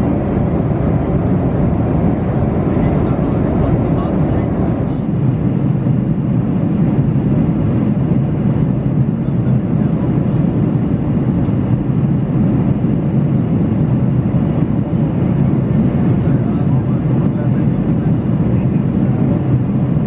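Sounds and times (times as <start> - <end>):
airplane engines rumbling: 0.0 - 20.0.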